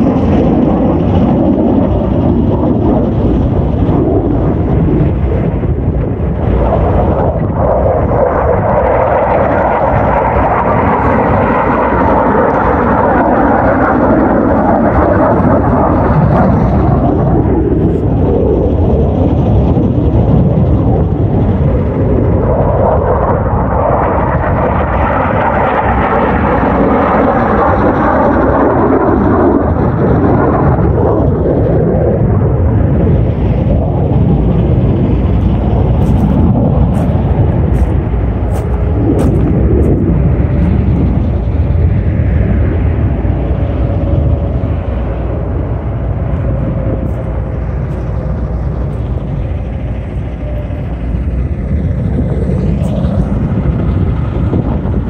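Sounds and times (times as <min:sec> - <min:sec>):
jet aircraft roar overhead: 0:00.0 - 0:55.0.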